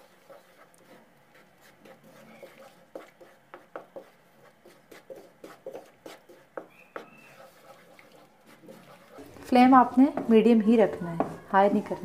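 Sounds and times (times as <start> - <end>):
wooden spatula stirring in wok: 0.0 - 12.0.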